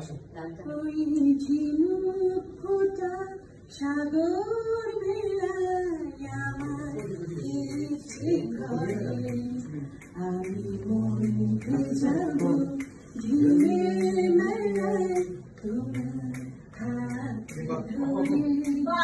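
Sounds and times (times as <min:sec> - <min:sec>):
person singing unaccompanied: 0:00.8 - 0:19.0.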